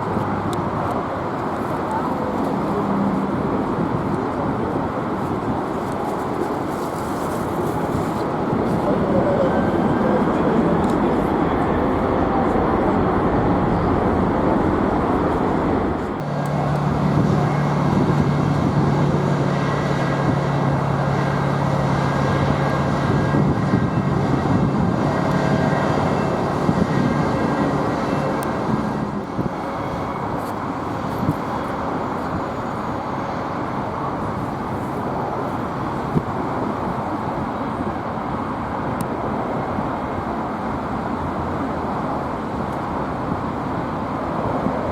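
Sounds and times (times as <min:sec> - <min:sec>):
jet engines running: 0:00.0 - 0:44.9.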